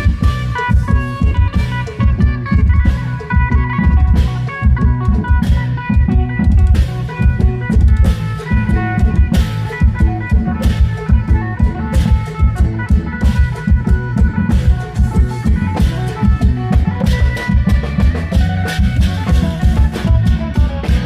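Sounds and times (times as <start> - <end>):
drums pounding: 0.0 - 21.0
sustained melody line: 0.0 - 21.0.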